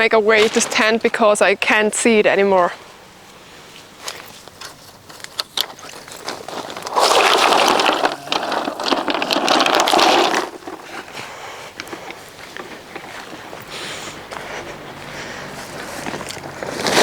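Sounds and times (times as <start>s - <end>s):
tent fabric rustling and scraping: 0.2s - 1.4s, 3.2s - 17.0s.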